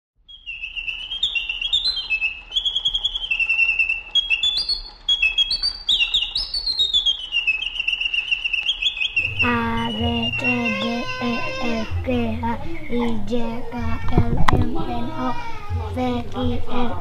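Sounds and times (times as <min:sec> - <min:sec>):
songbird singing: 0:00.3 - 0:14.6.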